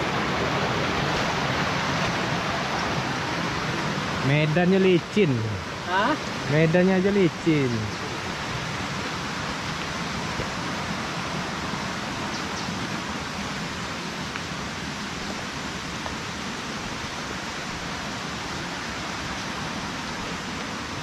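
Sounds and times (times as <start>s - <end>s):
steady rushing hiss: 0.0s - 21.0s.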